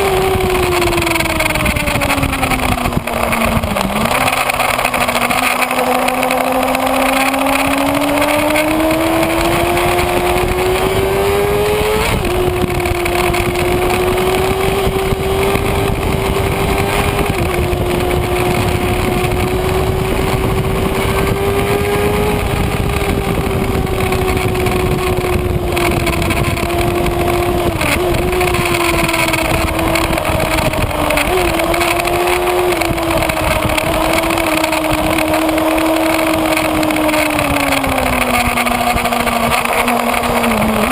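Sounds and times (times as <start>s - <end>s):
motorcycle engine at high revs: 0.0s - 40.9s
wind noise: 0.0s - 40.9s.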